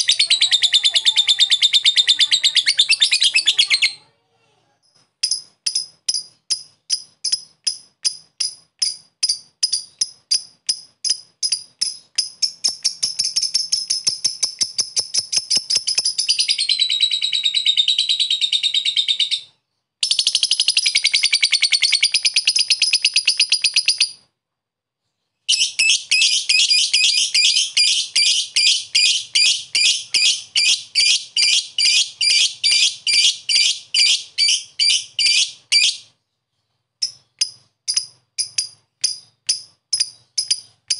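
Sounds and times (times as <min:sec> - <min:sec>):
lovebird chirping and trilling: 0:00.0 - 0:04.1, 0:04.9 - 0:24.3, 0:25.5 - 0:40.9.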